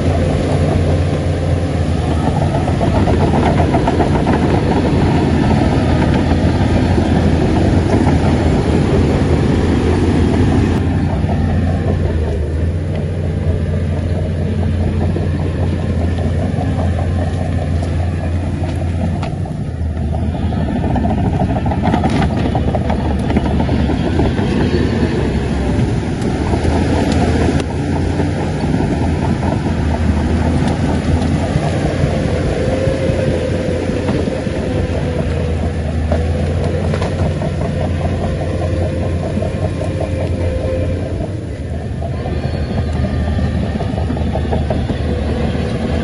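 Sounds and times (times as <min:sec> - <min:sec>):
bulldozer diesel engine: 0:00.0 - 0:46.0
steady whine: 0:00.0 - 0:46.0
tracks rattling: 0:00.0 - 0:46.0.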